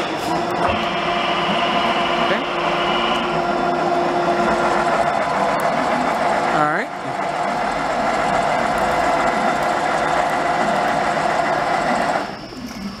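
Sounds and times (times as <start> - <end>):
lathe mechanical hum: 0.0 - 13.0.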